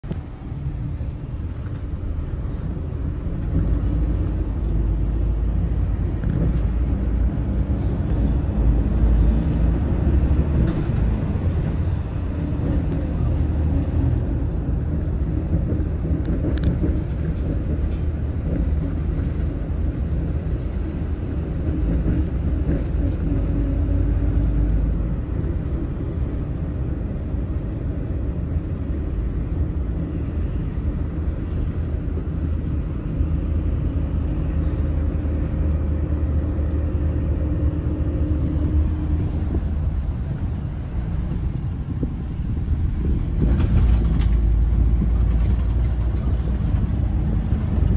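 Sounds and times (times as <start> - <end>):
coach diesel engine rumble: 0.0 - 47.9.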